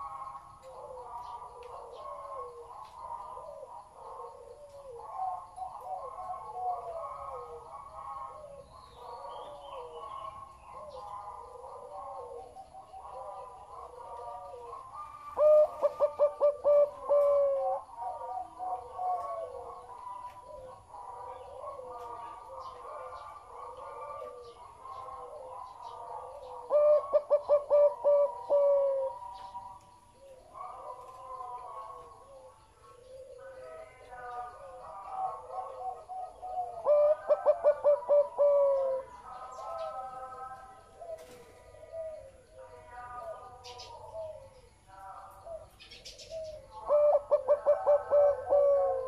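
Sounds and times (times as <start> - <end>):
dove cooing: 0.0 - 49.0
faint bird calls: 0.0 - 49.0.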